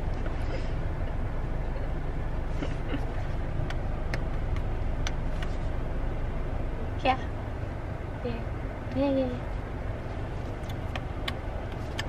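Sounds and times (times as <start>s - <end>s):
car engine rumble from cabin: 0.0s - 12.0s.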